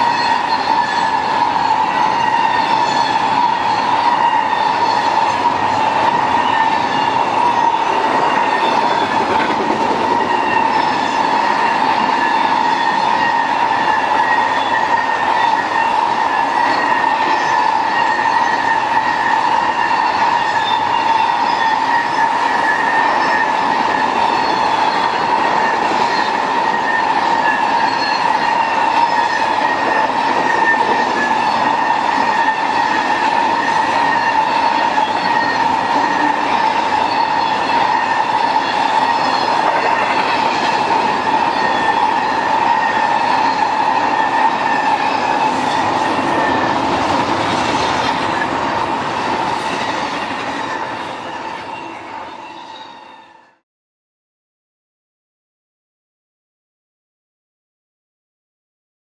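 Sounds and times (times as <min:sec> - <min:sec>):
high-pitched wheel squeal: 0:00.0 - 0:53.6
train wheels rushing on rail: 0:00.0 - 0:53.6.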